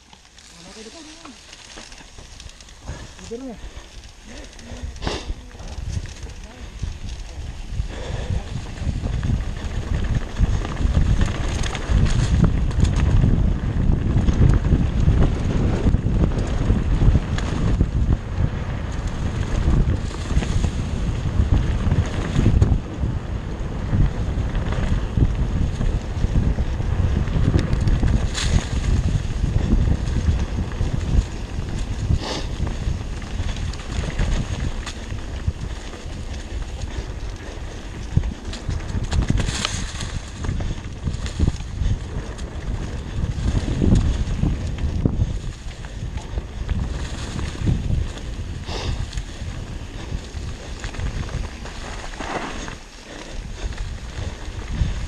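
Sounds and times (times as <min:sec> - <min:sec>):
tyres rumbling on dirt trail: 0:00.0 - 0:55.0
wind buffeting microphone: 0:00.0 - 0:55.0.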